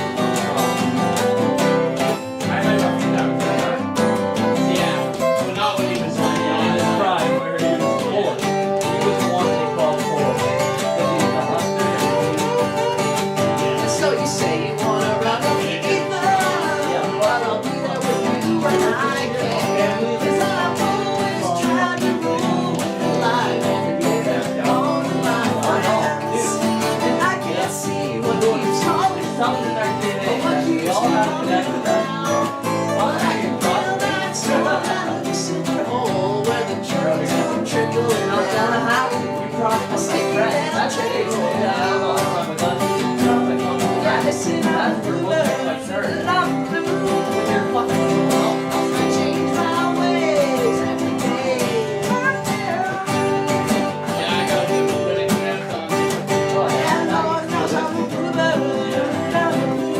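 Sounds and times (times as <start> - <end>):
acoustic guitar picking: 0.0 - 59.9.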